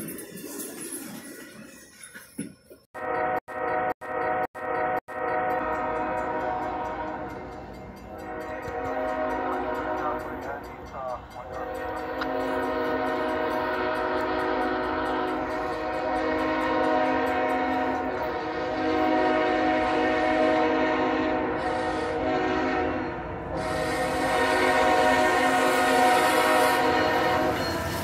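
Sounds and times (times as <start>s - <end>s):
train rolling noise: 0.0s - 28.0s
train air horn blasts: 3.0s - 7.5s, 8.2s - 10.4s, 11.6s - 28.0s.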